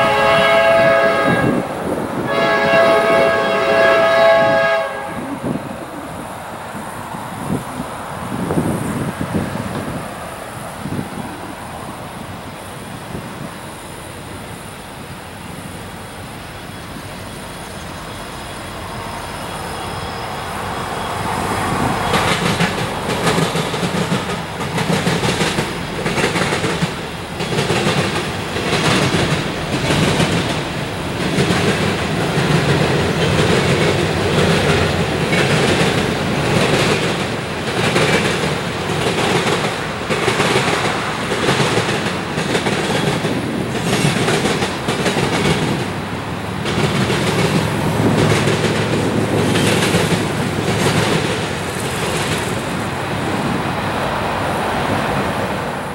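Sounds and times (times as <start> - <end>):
freight train passing: 0.0 - 55.9
wheels clacking over rail joints: 0.0 - 55.9.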